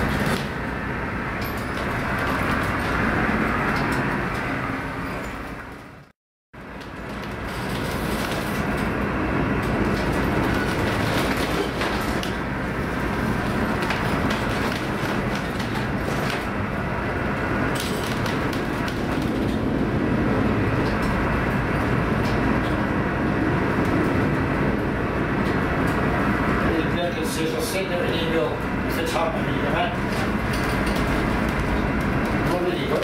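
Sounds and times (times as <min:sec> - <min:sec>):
ship engines droning: 0:00.0 - 0:33.0
wind and sea noise: 0:00.0 - 0:33.0.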